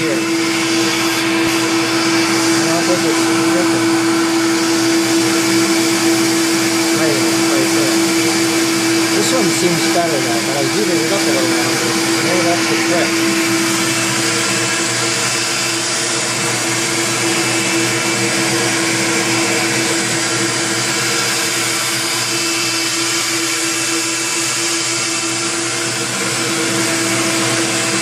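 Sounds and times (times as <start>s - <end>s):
vacuum cleaner motor whining: 0.0s - 28.0s.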